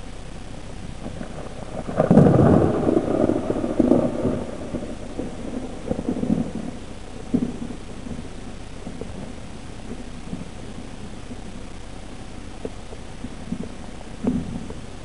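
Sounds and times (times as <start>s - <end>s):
thunder crack and rumbling: 0.7s - 11.5s, 12.6s - 15.0s.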